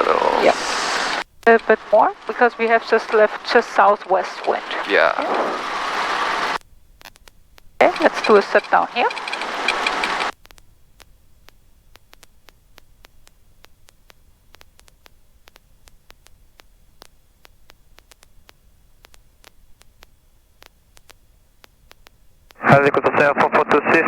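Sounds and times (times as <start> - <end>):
low hiss: 0.0 - 24.0
static crackle clicks: 0.0 - 24.0.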